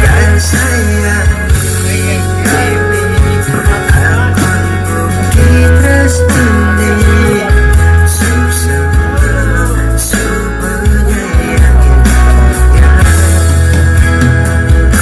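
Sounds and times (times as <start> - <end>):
guitar: 0.0 - 15.0
loud bass line: 0.0 - 15.0.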